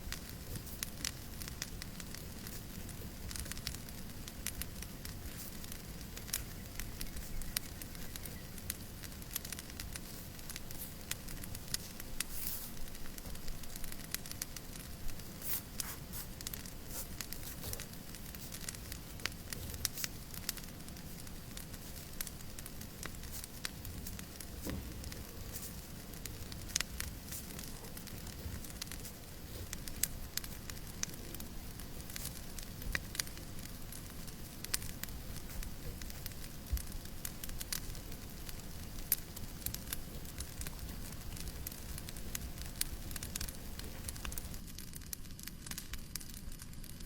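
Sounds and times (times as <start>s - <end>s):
fire popping and snapping: 0.0s - 47.0s.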